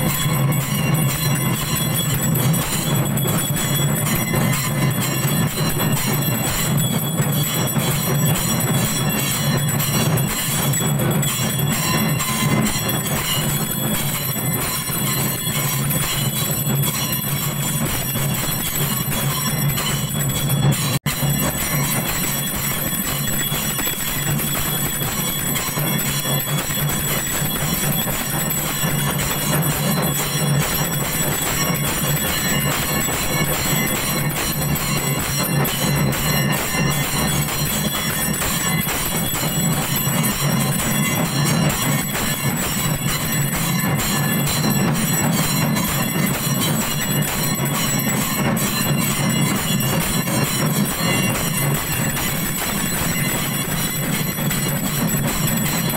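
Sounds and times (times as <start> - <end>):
bells clanging: 0.0 - 55.9.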